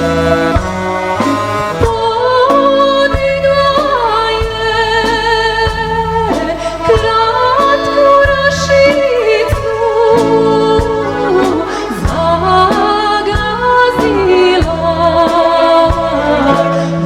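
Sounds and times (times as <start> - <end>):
accordion accompaniment: 0.0 - 17.0
woman singing folk song: 1.8 - 17.0.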